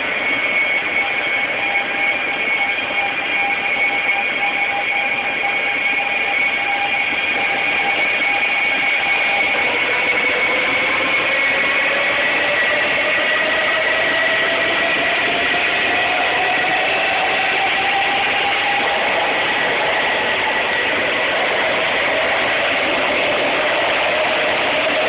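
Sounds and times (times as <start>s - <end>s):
train whine and rush: 0.0s - 25.0s.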